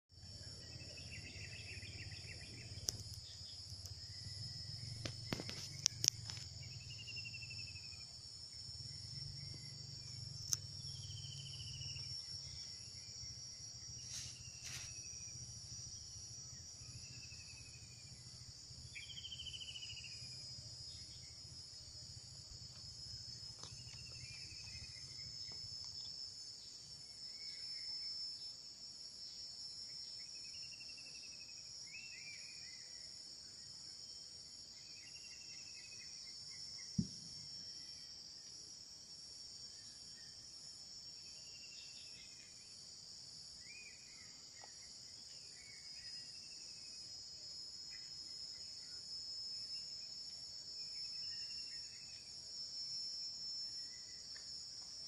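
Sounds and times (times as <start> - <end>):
high-pitched insect drone: 0.1 - 55.0.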